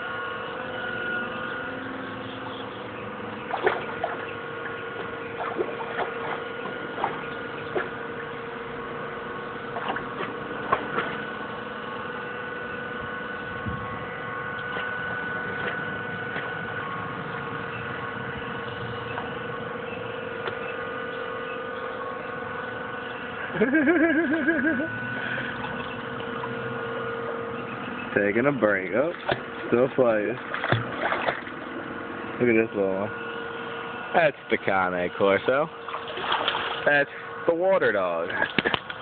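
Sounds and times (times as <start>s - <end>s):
steady motor hum: 0.0s - 39.0s
water sloshing and splashing: 2.4s - 23.4s, 24.9s - 32.4s, 35.4s - 39.0s.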